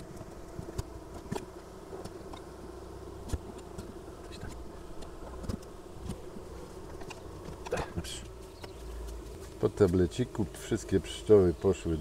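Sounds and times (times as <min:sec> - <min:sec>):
bees humming in hive: 0:00.0 - 0:12.0.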